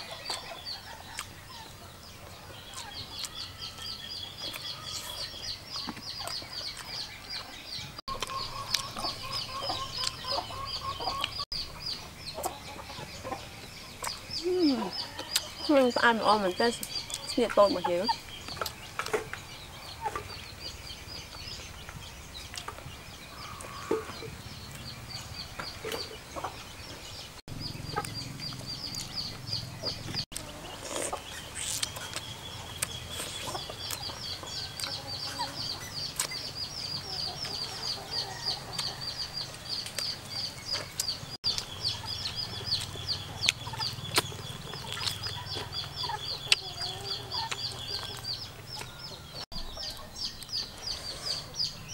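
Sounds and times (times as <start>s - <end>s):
chickens clucking and peeping: 0.0s - 51.9s.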